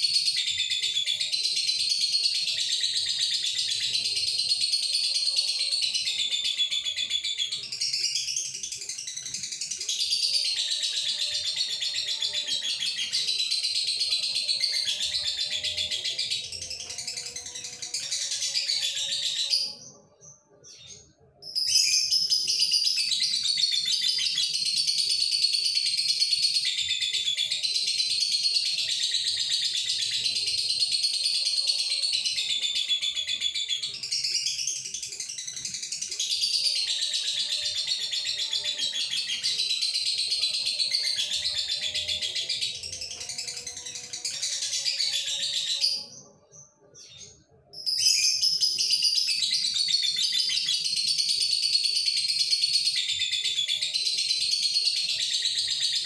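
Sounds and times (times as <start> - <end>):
lovebird singing high-pitched song: 0.0 - 56.0.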